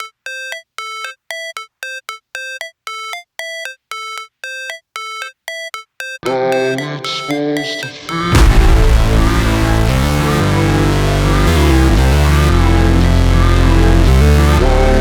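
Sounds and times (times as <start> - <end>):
sparse electronic melody: 0.0 - 15.0.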